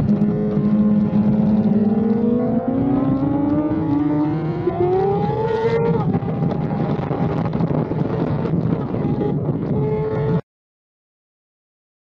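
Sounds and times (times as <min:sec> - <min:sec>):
motorcycle engine revving: 0:00.0 - 0:10.4.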